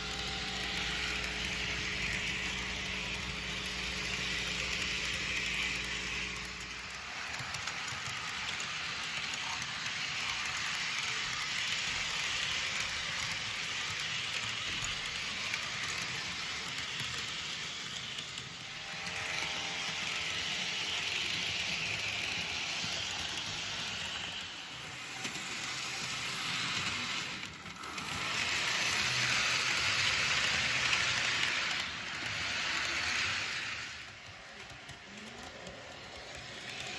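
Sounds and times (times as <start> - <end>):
model train wheels rattling on rails: 0.0 - 36.9.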